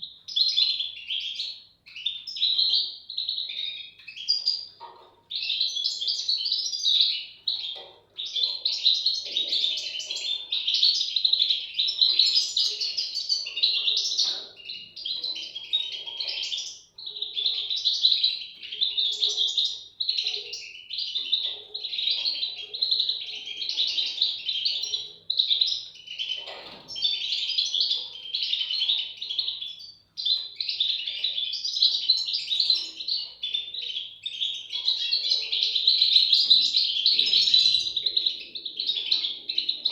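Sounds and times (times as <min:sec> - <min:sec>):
bird chicks twittering: 0:00.0 - 0:39.9.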